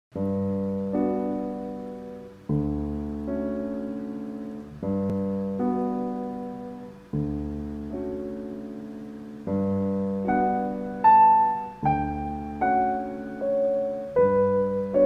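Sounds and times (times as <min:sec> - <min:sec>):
slow solo piano chords: 0:00.2 - 0:15.0.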